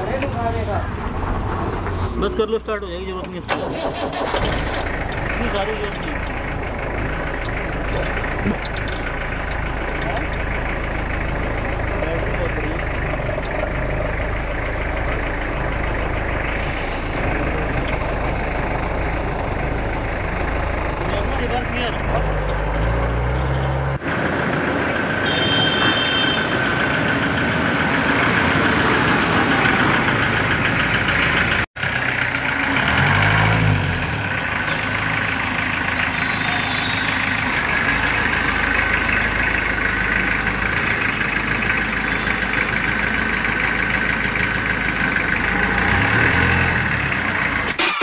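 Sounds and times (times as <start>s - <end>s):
jeep engine running: 0.0s - 48.0s.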